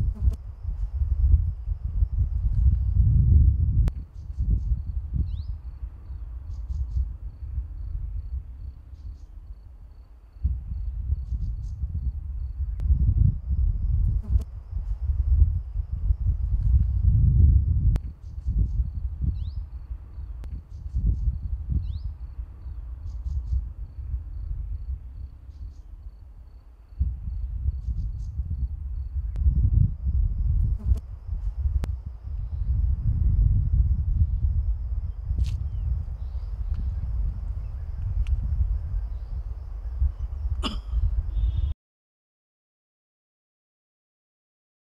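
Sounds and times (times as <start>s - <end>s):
high insect chirp: 0.0s - 41.7s
low rumbling noise: 0.0s - 41.7s.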